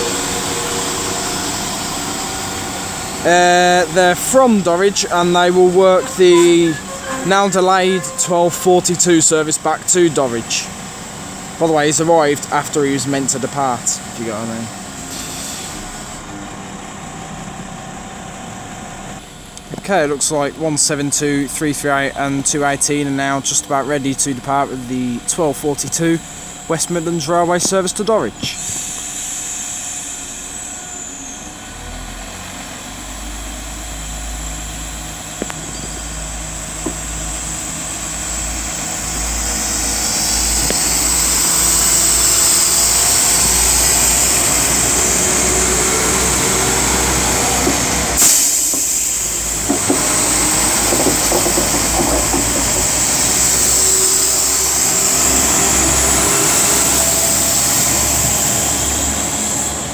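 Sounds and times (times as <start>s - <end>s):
diesel train engines under load: 0.0s - 59.9s
train wheels rumbling on rails: 0.0s - 59.9s.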